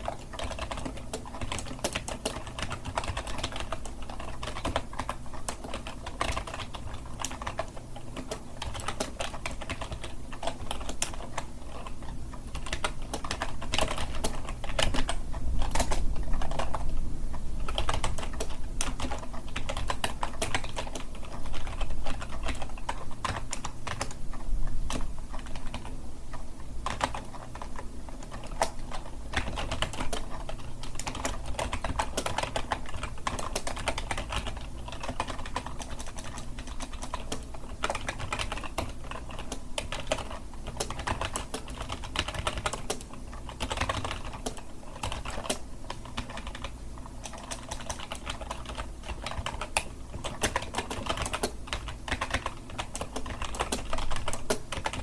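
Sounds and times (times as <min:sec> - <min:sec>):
computer keyboard typing: 0:00.0 - 0:55.0.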